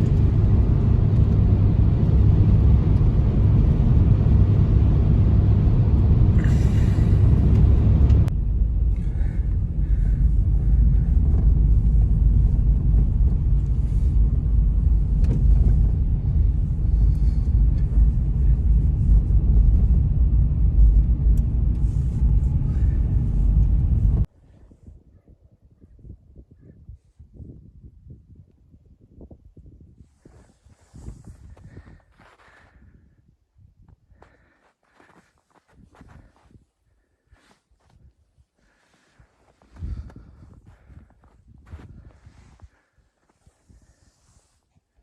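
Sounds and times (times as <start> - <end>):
strong blizzard wind blowing: 0.0 - 45.0.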